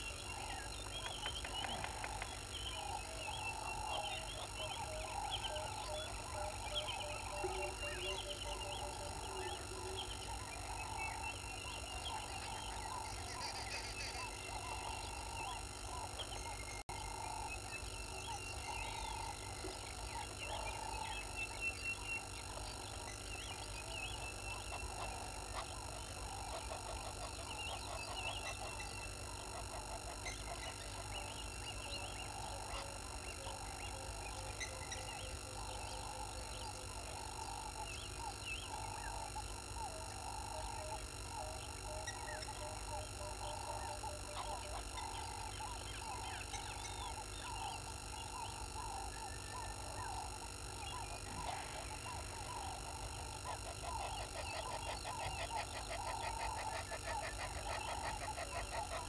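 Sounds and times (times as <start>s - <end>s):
bird calls chattering: 0.0s - 59.0s
steady hum: 0.0s - 59.0s.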